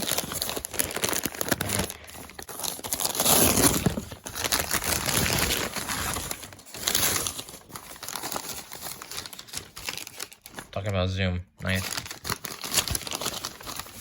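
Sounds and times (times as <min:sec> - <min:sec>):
packing wrap crumpled and torn: 0:00.0 - 0:14.0.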